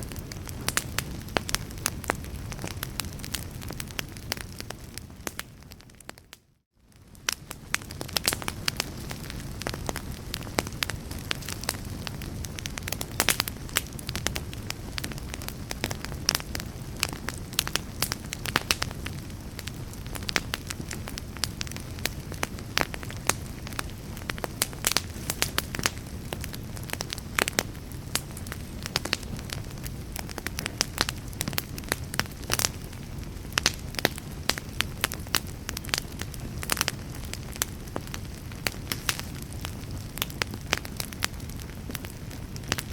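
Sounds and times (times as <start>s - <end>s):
low fire rumble: 0.0s - 42.9s
wood fire crackling and popping: 0.0s - 42.9s.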